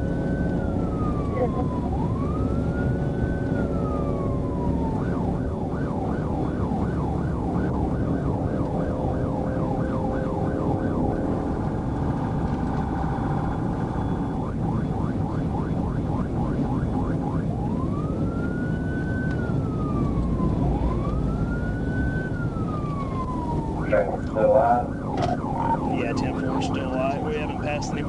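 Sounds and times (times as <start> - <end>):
police siren wailing and yelping: 0.0 - 28.0
road and engine noise: 0.0 - 28.0.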